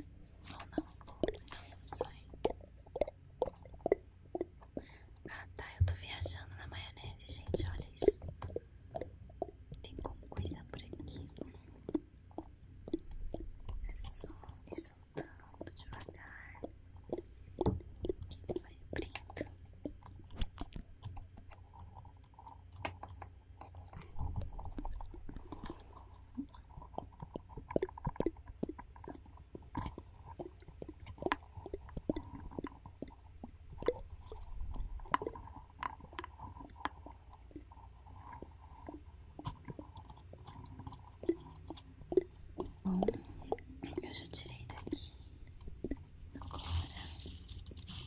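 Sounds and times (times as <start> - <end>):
wet mouth clicks and smacks: 0.0 - 6.5, 7.3 - 48.0
faint low hum: 0.0 - 48.0.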